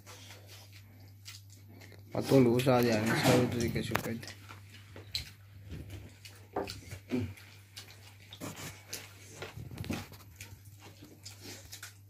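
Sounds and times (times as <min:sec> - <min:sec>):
people chewing and lip-smacking: 0:00.0 - 0:12.0.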